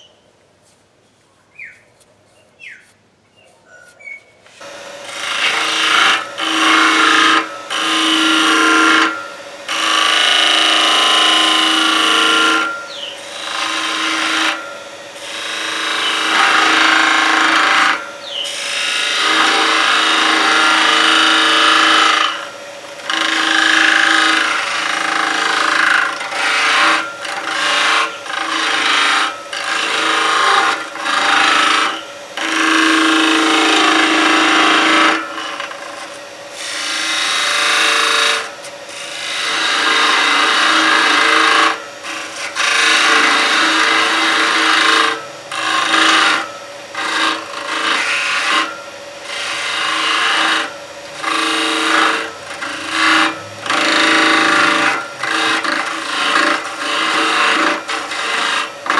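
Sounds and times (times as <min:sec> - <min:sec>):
turning tool scraping wood: 0:04.5 - 0:58.9
wood lathe humming: 0:04.5 - 0:58.9.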